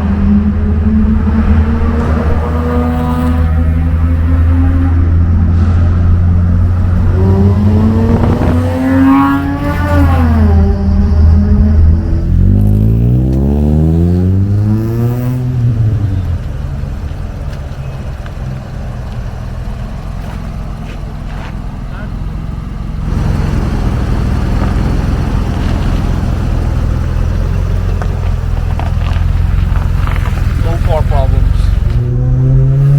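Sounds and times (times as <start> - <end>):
car engine accelerating: 0.0 - 32.9
road noise: 0.0 - 32.9.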